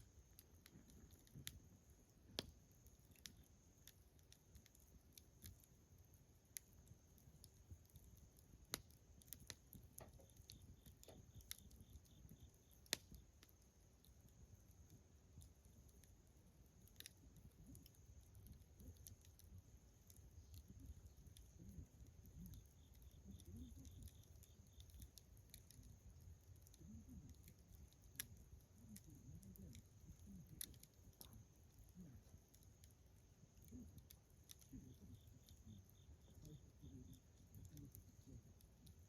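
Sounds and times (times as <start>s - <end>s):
bonfire crackling: 0.0s - 39.0s
sharp snaps and pops: 0.0s - 39.0s.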